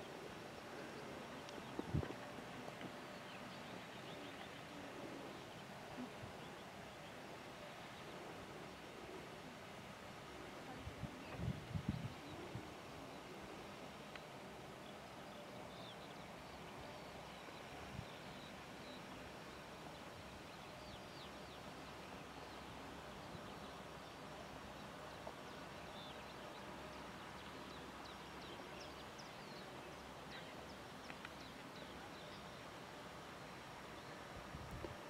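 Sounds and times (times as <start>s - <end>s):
low outdoor hiss: 0.0s - 35.0s.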